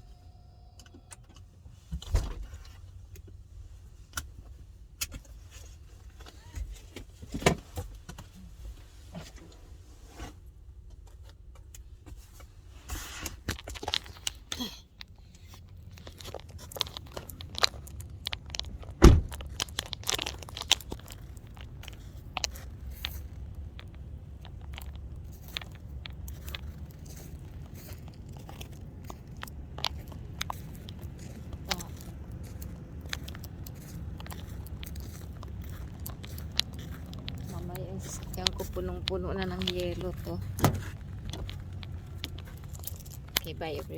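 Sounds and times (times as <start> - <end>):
low steady rumble: 0.0 - 43.9
clicks and rustling handling noise: 0.8 - 43.9.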